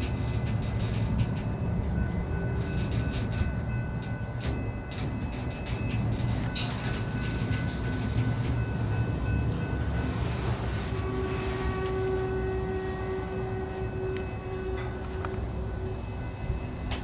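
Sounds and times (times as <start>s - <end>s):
freight car rolling rumble: 0.0s - 17.0s.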